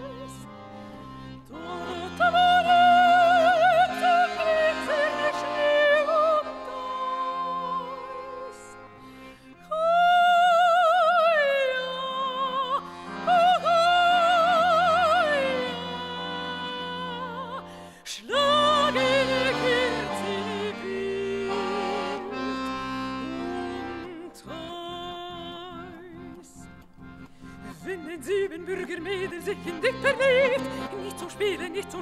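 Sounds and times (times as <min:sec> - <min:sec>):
operatic soprano singing: 0:00.0 - 0:00.6, 0:01.4 - 0:08.9, 0:09.6 - 0:26.6, 0:27.7 - 0:32.0
accordion chords: 0:00.0 - 0:32.0.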